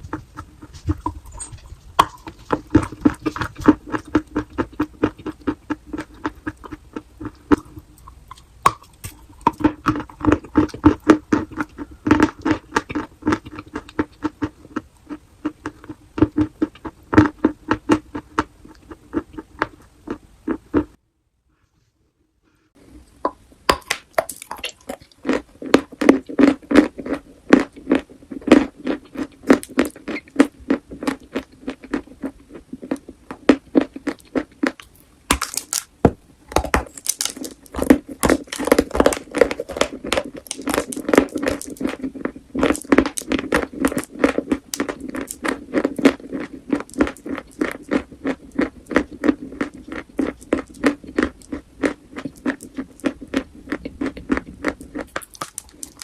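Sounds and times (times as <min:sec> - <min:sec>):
chalk crunching while chewed: 0:00.0 - 0:20.9, 0:23.7 - 0:56.0.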